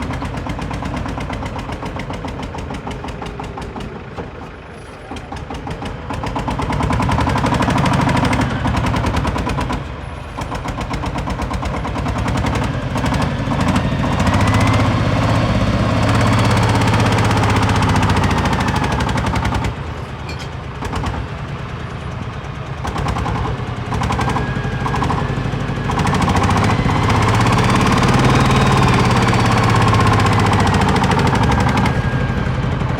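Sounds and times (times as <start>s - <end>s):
excavator diesel engine clattering: 0.0s - 32.9s.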